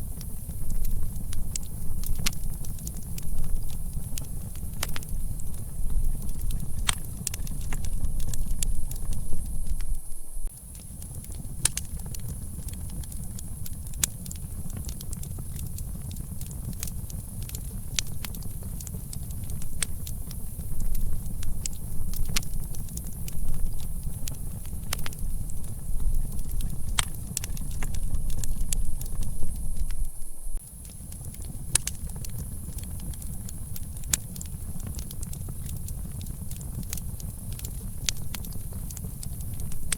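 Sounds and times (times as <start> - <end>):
campfire crackling: 0.0 - 39.9
low rumble of wind: 0.0 - 39.9.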